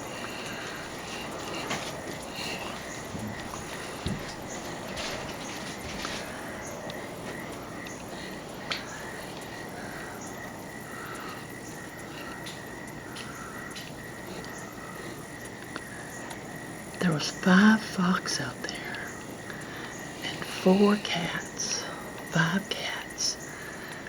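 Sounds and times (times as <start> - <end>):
high insect trill: 0.0 - 24.0.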